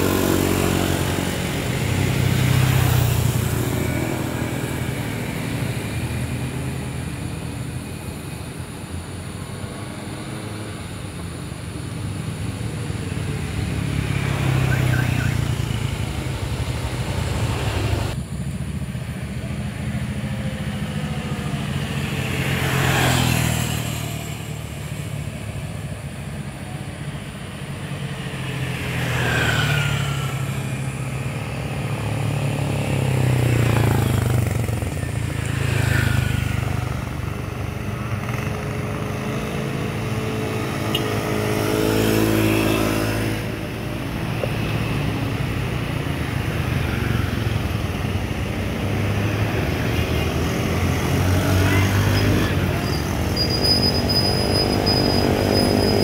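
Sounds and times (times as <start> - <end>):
motorcycles and cars passing: 0.0 - 56.0
truck diesel engines droning: 0.0 - 56.0.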